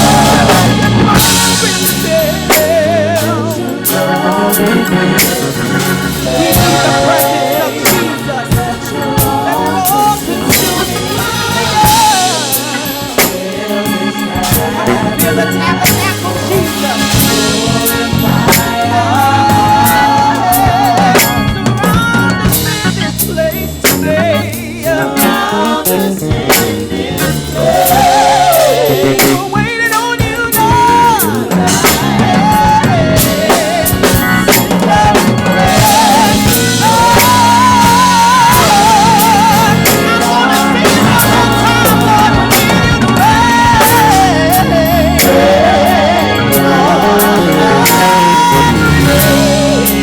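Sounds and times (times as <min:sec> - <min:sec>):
drum kit hits: 0:00.0 - 0:50.0
gospel band playing: 0:00.0 - 0:50.0
wavering melodic lead line: 0:00.0 - 0:50.0.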